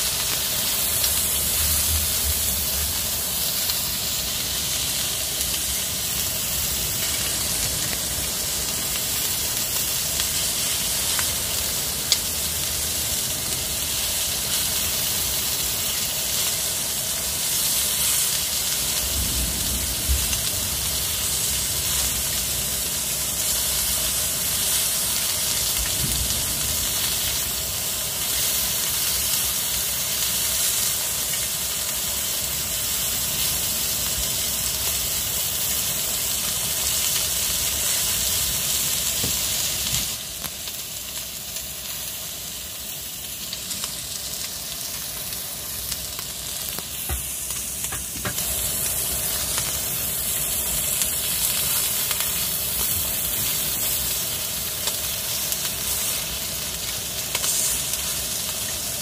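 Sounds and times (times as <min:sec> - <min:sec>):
food sizzling on a griddle: 0:00.0 - 0:59.0.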